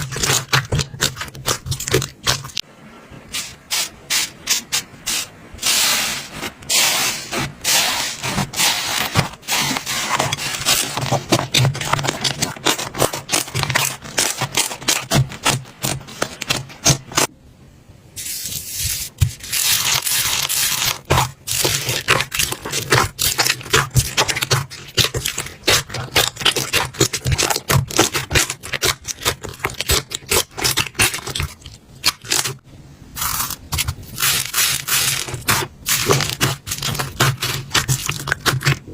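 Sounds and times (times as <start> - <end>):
slime crackling and squishing: 0.0 - 2.6, 7.3 - 17.3, 18.6 - 32.6, 33.2 - 38.9.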